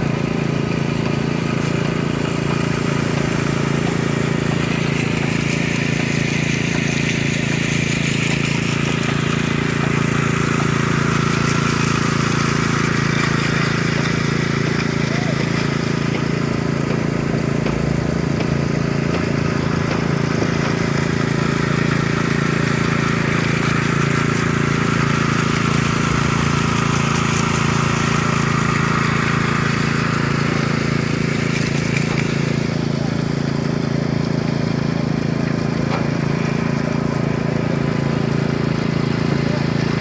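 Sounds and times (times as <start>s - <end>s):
power trowel engine running: 0.0s - 40.0s.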